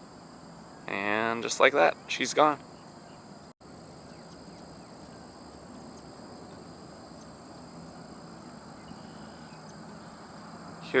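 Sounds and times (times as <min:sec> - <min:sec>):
high-pitched insect drone: 0:00.0 - 0:11.0
low background noise: 0:00.0 - 0:11.0.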